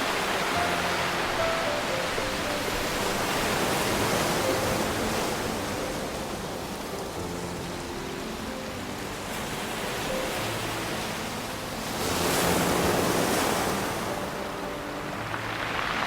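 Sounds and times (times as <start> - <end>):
ocean waves on shore: 0.0 - 16.0
soft background music: 0.0 - 16.0.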